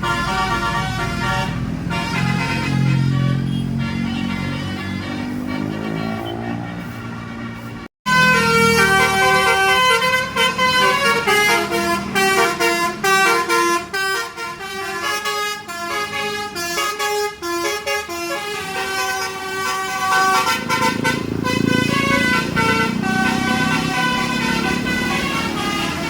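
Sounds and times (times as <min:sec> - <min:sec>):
bus engine running: 0:00.0 - 0:26.0
multi-tone bus horn melody: 0:00.0 - 0:26.0.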